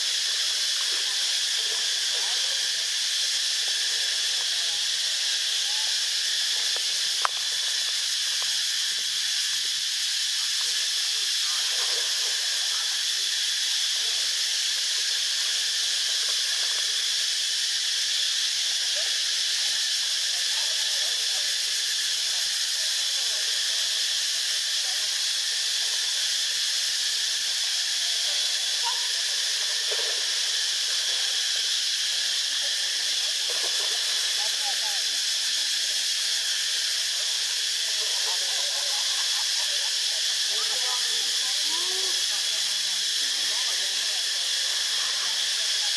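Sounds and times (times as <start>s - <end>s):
steady high hiss: 0.0s - 45.9s.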